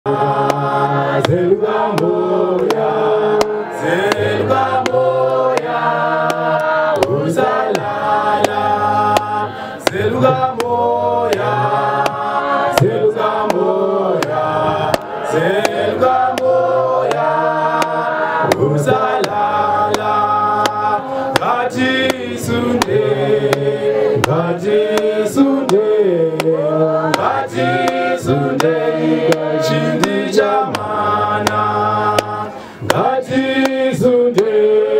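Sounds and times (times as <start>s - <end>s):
male choir singing in harmony: 0.1s - 34.9s.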